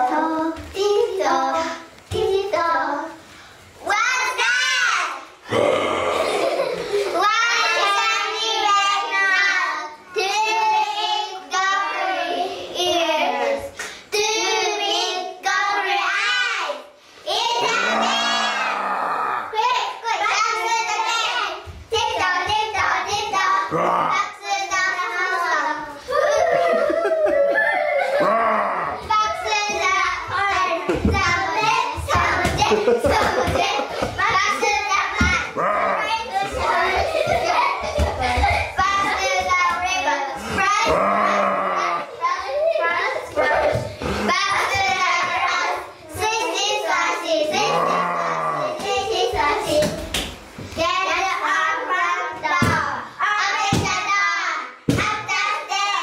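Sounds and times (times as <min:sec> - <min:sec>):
children chattering and calling out: 0:00.0 - 0:56.0.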